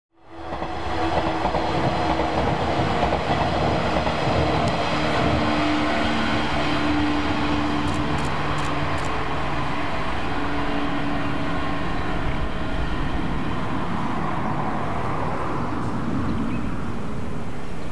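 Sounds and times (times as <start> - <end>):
train wheels rumbling on rail: 0.3 - 16.6.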